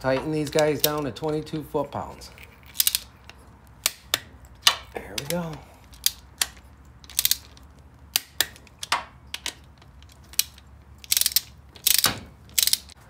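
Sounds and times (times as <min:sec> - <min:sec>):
torque wrench clicking: 0:02.2 - 0:13.0.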